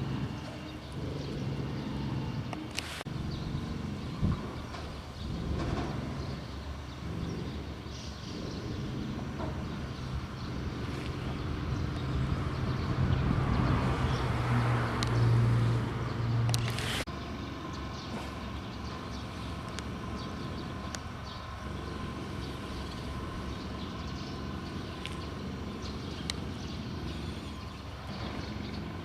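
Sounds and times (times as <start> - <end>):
vehicle passing: 0.0 - 29.0.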